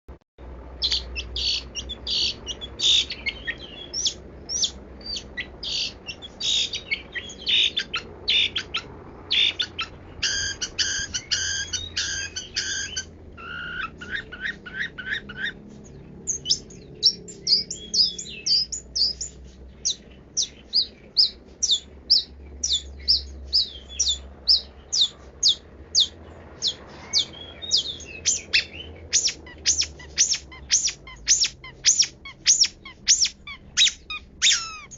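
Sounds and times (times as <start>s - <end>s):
bird singing sharp chattering notes: 0.8s - 34.9s.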